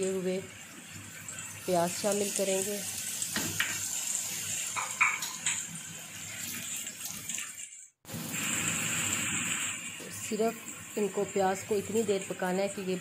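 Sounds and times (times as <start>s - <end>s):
onions sizzling in oil: 0.0s - 7.1s, 8.1s - 13.0s.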